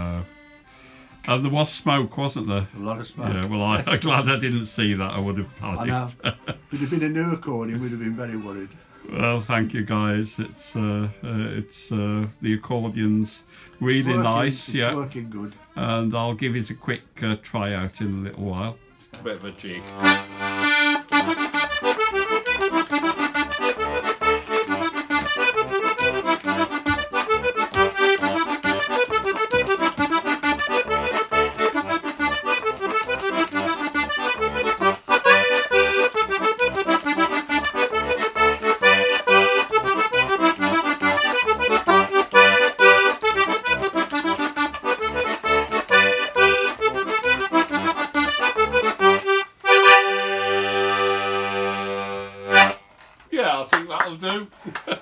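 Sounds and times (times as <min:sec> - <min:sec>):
accordion playing lively tune: 0:00.0 - 0:02.0, 0:02.6 - 0:17.0, 0:17.6 - 0:52.8.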